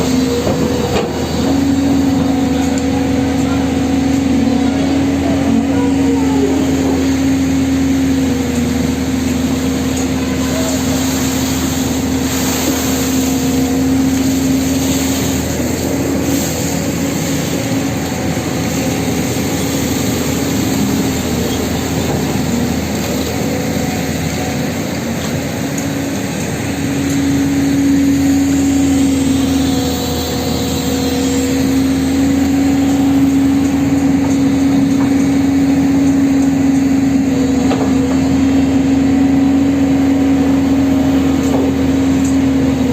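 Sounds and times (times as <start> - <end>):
engine humming steadily: 0.0 - 42.9.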